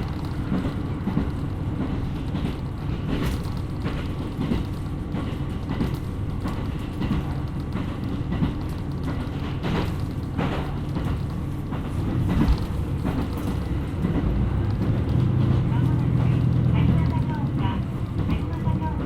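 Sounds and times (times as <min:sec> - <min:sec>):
railcar engine and wheels rumbling: 0:00.0 - 0:19.0.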